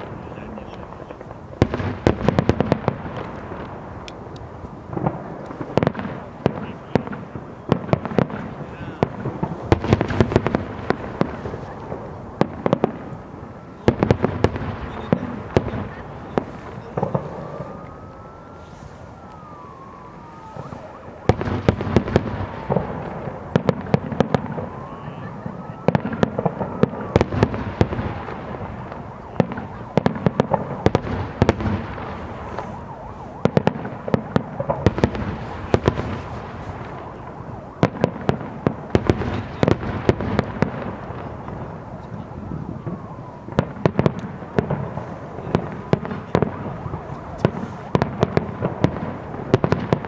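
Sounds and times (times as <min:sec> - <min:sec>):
fireworks bangs and crackling: 0:00.0 - 0:50.0
fireworks whistles: 0:04.9 - 0:50.0.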